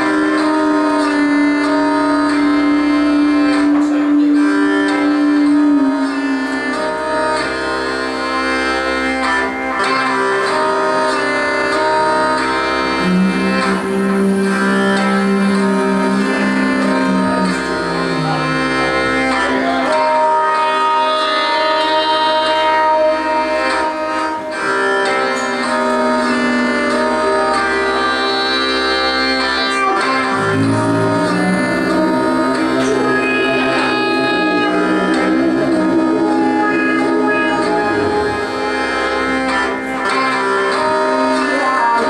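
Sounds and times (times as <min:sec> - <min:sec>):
hurdy-gurdy playing: 0:00.0 - 0:42.0.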